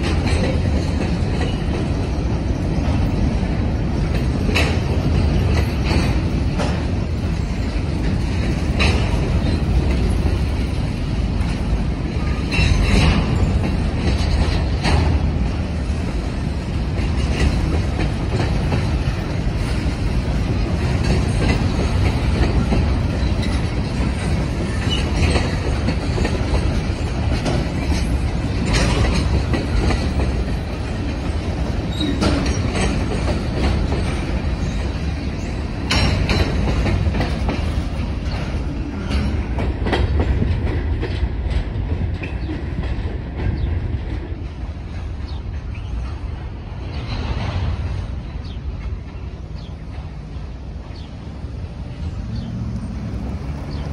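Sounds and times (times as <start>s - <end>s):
steel wheels rumbling on rail: 0.0s - 53.9s
wheels clacking over rail joints: 0.0s - 53.9s.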